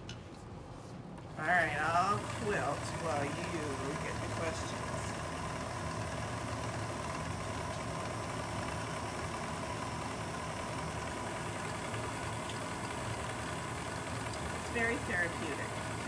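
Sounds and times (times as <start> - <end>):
sewing machine running: 1.3 - 16.0.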